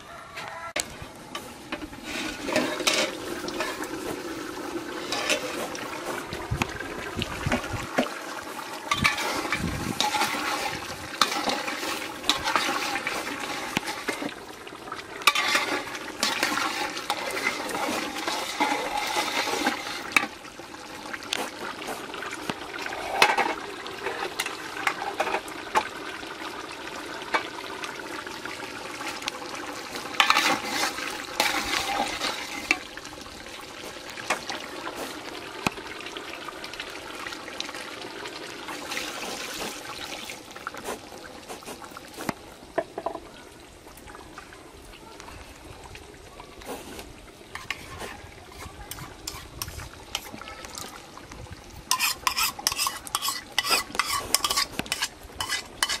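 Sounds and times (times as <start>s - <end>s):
water sloshing and trickling: 0.5s - 56.0s.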